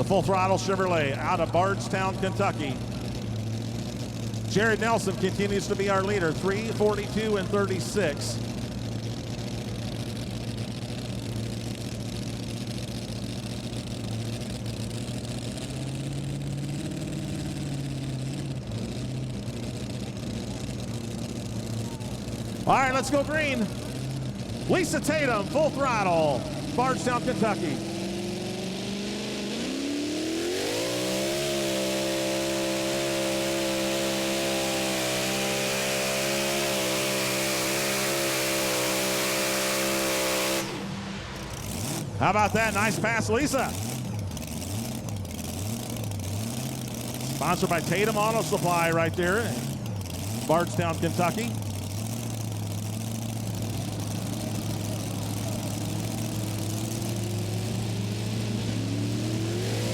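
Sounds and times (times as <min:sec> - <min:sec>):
pulling truck engine at full throttle: 0:00.0 - 0:59.9.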